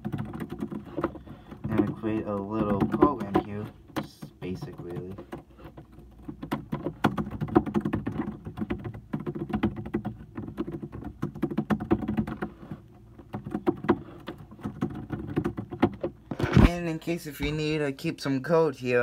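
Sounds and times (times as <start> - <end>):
laptop keyboard typing: 0.0 - 16.6.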